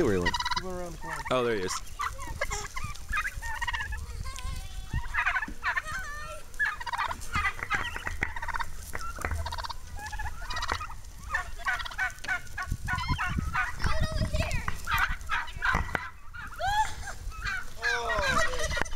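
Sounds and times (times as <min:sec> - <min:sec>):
turkeys gobbling: 0:00.0 - 0:04.2, 0:04.9 - 0:18.9.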